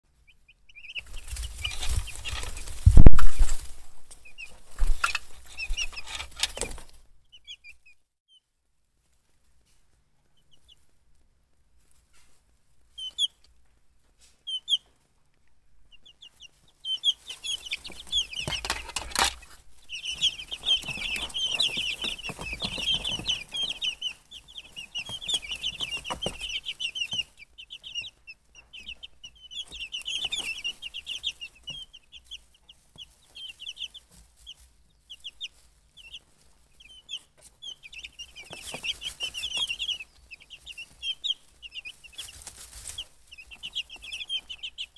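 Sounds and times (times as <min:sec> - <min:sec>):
baby chicks peeping: 0:00.1 - 0:44.9.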